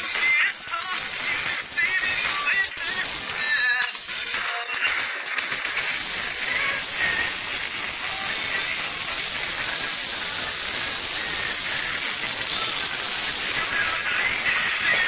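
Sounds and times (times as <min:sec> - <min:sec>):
loud steady hiss: 0:00.0 - 0:15.0.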